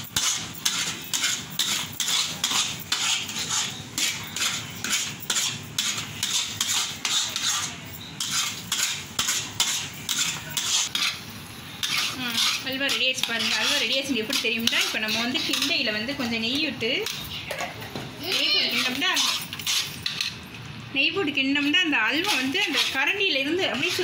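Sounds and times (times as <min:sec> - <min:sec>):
ladle stirring and scraping pan: 0:00.0 - 0:20.7, 0:21.6 - 0:24.0.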